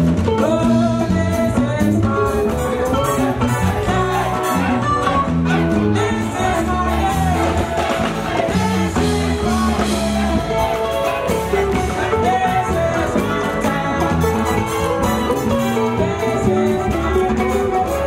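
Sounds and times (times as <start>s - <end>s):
dance music: 0.0s - 18.0s
person singing: 0.0s - 18.0s
steady moving bass line: 0.0s - 18.0s.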